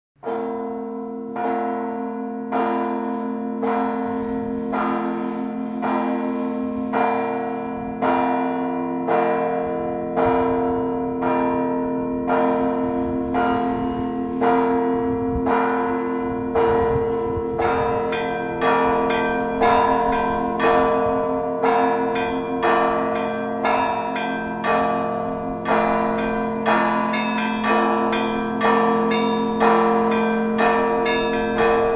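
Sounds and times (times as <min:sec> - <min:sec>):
church bell struck: 0:00.2 - 0:31.9
large bells humming: 0:00.2 - 0:31.9.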